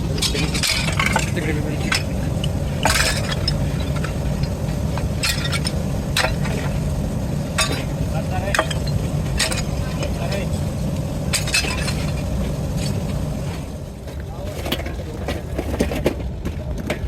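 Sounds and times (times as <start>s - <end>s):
machinery rumble: 0.0s - 17.0s.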